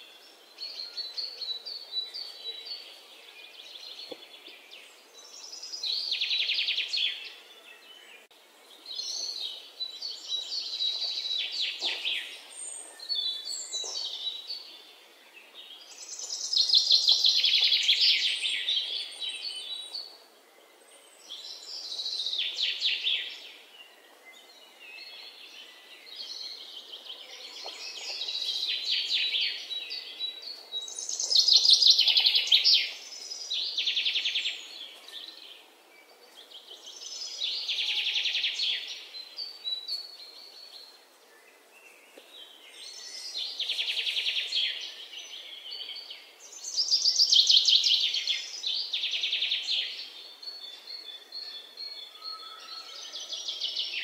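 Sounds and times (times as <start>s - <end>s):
faint steady hiss: 0.0s - 52.2s.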